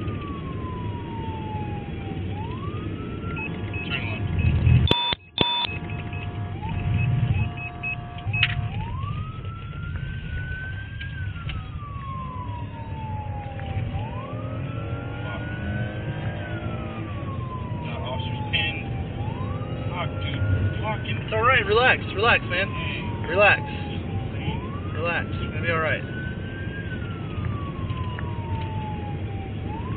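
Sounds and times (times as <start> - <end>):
car engine and tyre rumble: 0.0 - 29.9
police siren wailing: 0.0 - 29.9.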